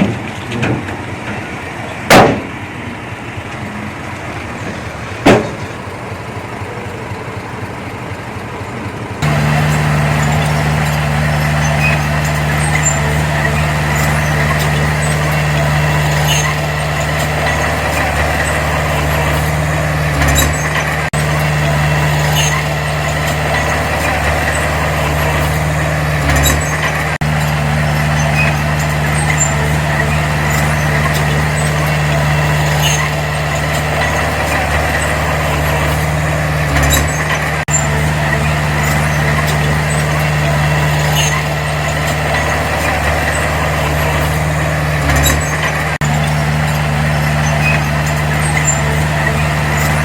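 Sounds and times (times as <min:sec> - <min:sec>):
heavy diesel engine droning: 0:00.0 - 0:50.0.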